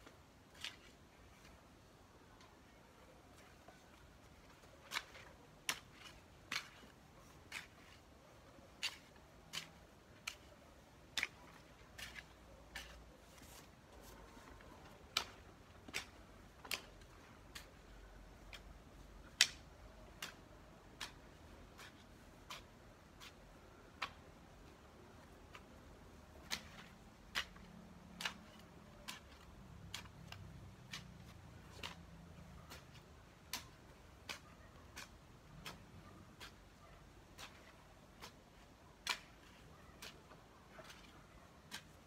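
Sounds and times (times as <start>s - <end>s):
garden hoe chopping into soil: 0.5s - 1.0s, 4.4s - 42.0s.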